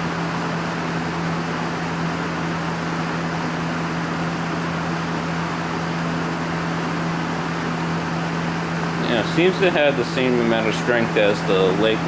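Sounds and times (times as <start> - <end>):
box fan running: 0.0 - 12.0.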